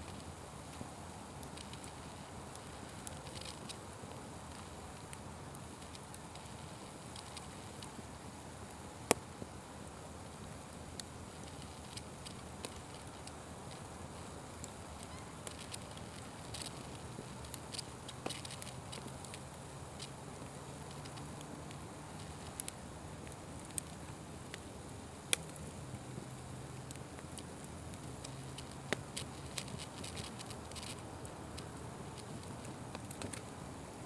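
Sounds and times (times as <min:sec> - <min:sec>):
fire crackling and popping: 0:00.0 - 0:34.0
fire hissing: 0:00.1 - 0:34.0.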